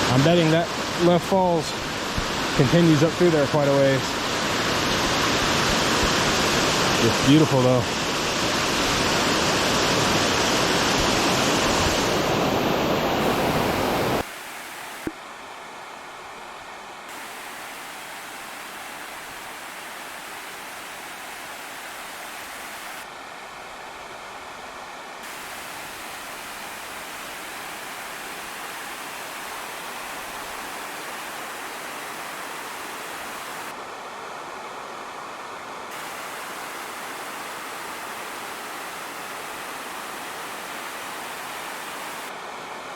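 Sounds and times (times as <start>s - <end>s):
waterfall rushing: 0.0s - 15.1s, 17.1s - 23.8s, 25.2s - 34.4s, 35.0s - 42.9s.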